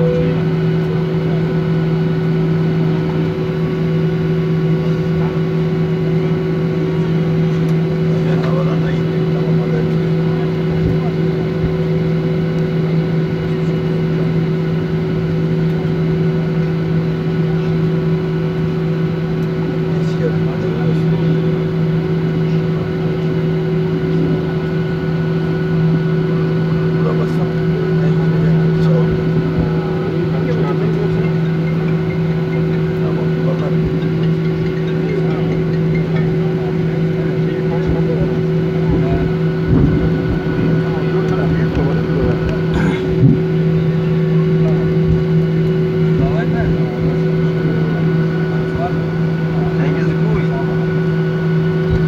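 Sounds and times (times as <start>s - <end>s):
jet engines idling in cabin: 0.0s - 52.0s.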